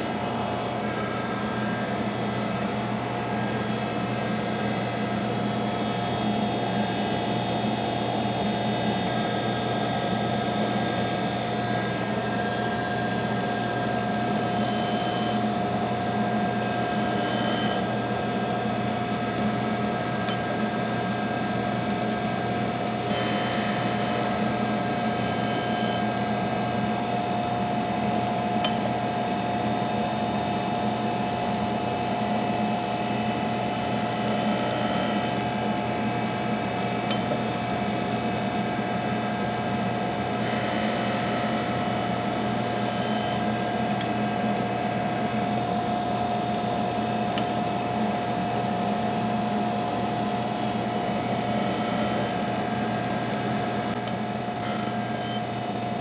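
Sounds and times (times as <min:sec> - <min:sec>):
motor whine: 0:00.0 - 0:56.0.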